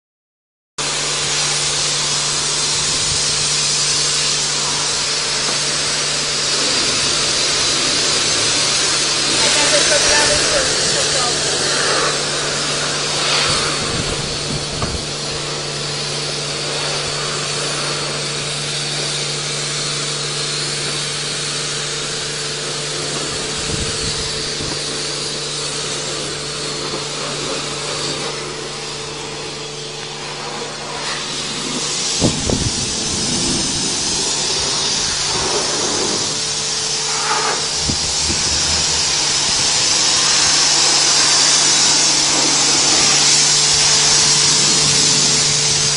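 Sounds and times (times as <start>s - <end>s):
high-pressure water spray hissing: 0.8s - 45.9s
motor hum: 0.8s - 45.9s.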